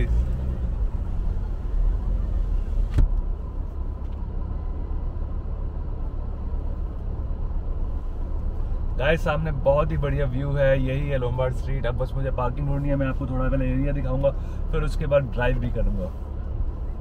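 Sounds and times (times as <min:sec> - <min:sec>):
car rumble from inside cabin: 0:00.0 - 0:17.0.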